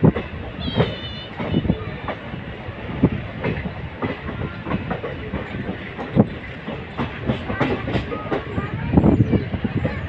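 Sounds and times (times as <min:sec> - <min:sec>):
train wheels clattering over rails: 0:00.0 - 0:10.0.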